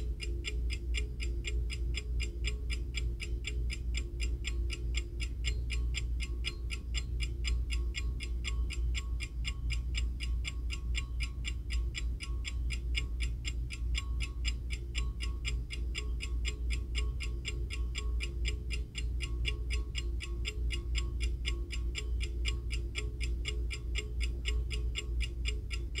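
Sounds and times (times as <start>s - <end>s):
alarm clock ticking: 0.0s - 26.0s
steady low hum: 0.0s - 26.0s.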